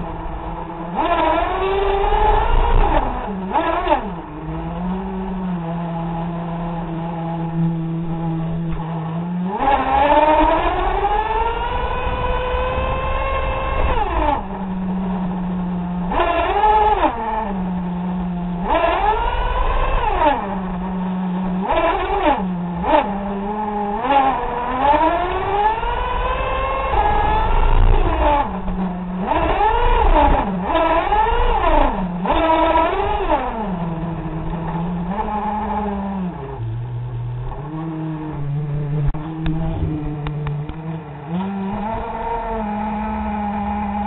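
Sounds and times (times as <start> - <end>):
nitro rc car engine revving: 0.0 - 44.0.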